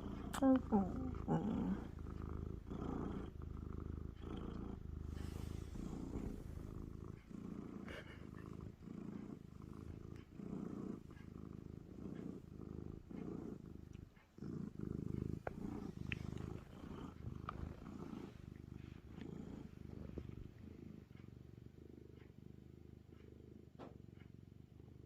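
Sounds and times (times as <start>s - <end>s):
cat purring loudly: 0.0s - 25.0s.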